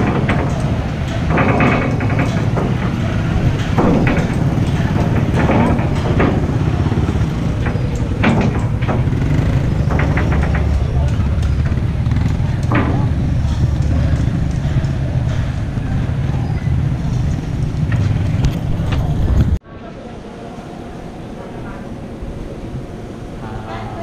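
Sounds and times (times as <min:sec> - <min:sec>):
sharp knocks: 0:00.0 - 0:19.6
motorcycle engines rumbling: 0:00.0 - 0:24.0
people's voices: 0:00.0 - 0:24.0.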